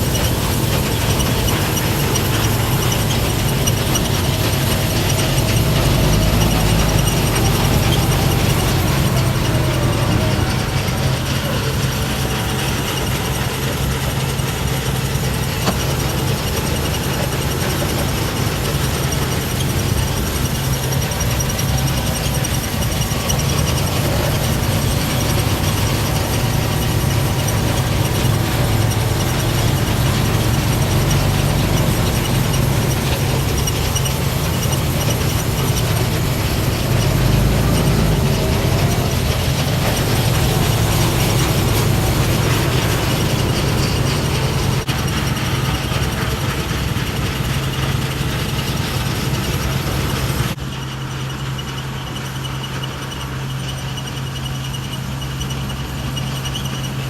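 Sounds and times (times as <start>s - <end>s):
harvest machinery running: 0.0s - 57.0s
low engine hum: 0.0s - 57.0s.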